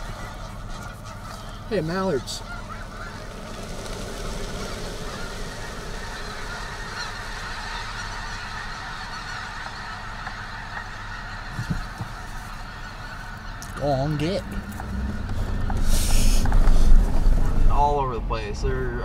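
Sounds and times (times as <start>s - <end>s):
geese honking: 0.0s - 19.0s
low hum: 2.4s - 19.0s.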